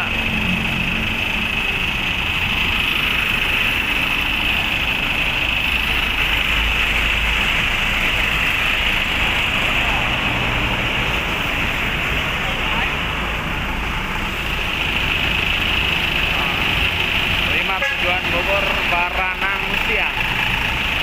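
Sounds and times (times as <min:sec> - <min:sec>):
bus engine running: 0:00.0 - 0:21.0
road traffic noise: 0:00.0 - 0:21.0.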